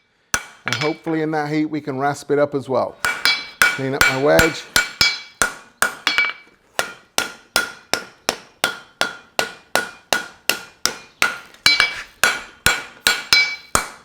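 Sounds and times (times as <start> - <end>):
hammer striking horseshoe on anvil: 0.4 - 1.2, 3.0 - 14.0.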